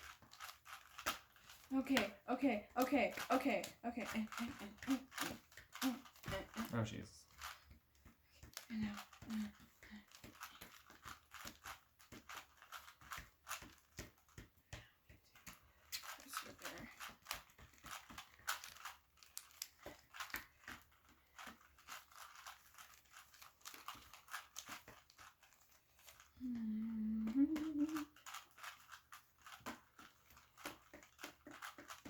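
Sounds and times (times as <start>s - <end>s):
puzzle cubes clicking and rattling: 0.0s - 14.6s, 15.4s - 26.6s, 27.2s - 32.0s.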